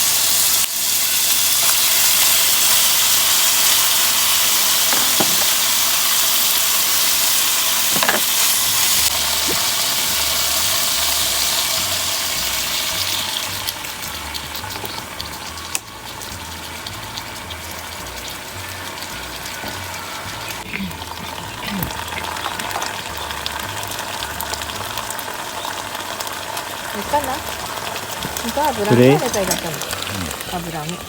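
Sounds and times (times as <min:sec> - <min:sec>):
water sizzling in hot pan: 0:00.0 - 0:31.0.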